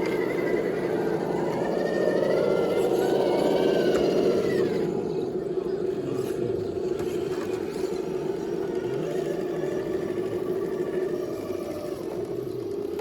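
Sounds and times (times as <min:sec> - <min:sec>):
electric motor and gears whirring: 0:00.0 - 0:13.0.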